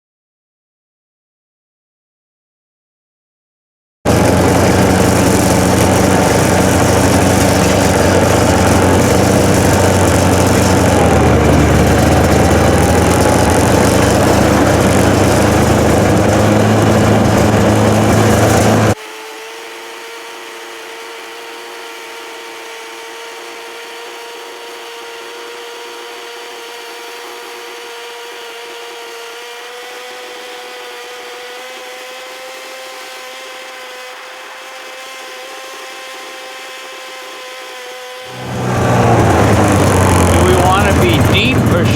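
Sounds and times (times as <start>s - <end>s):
power tool motor running loudly: 4.1s - 41.9s
quieter motor whine: 4.1s - 41.9s.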